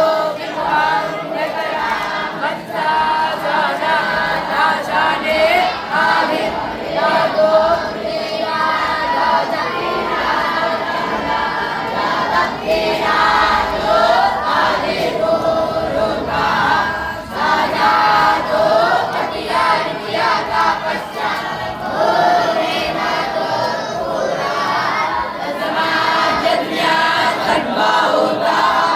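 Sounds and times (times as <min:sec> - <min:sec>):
group singing devotional chant: 0:00.0 - 0:28.9.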